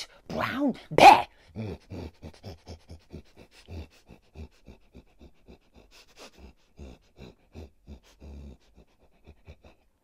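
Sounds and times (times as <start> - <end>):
person sniffing and panting: 1.4 - 10.0.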